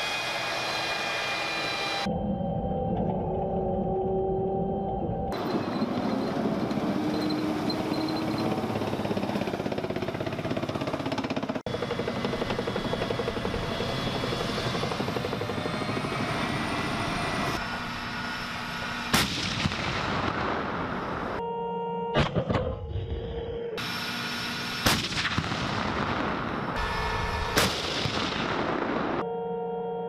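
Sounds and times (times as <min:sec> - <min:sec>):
gas turbine whine: 0:00.0 - 0:21.4, 0:22.9 - 0:28.9.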